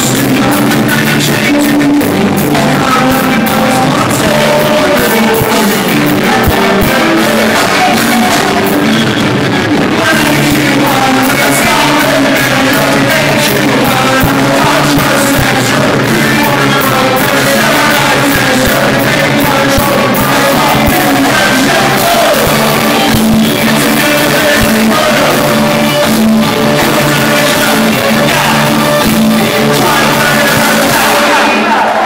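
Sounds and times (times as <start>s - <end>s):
person singing: 0.0s - 32.0s
ska band playing: 0.0s - 32.0s.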